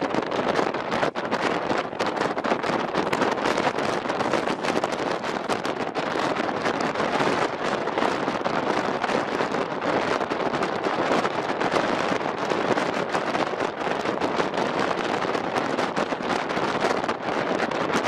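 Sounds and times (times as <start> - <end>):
strong wind rushing: 0.0 - 18.0
wind buffeting on microphone: 0.0 - 18.0.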